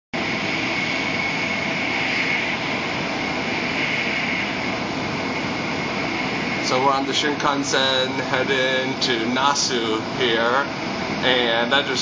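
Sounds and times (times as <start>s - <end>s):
faint high whine: 0.2s - 12.0s.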